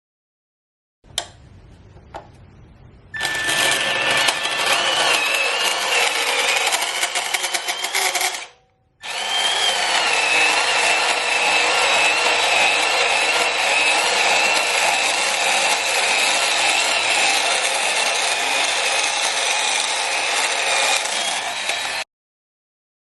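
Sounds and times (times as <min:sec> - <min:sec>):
band saw cutting metal: 0:03.2 - 0:22.1.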